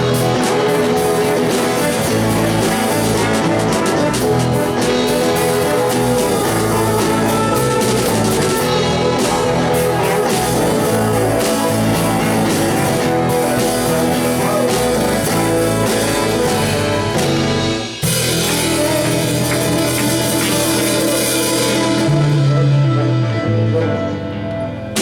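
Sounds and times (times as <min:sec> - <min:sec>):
bass guitar: 0:00.0 - 0:25.0
drums: 0:00.0 - 0:25.0
electric guitar: 0:00.0 - 0:25.0.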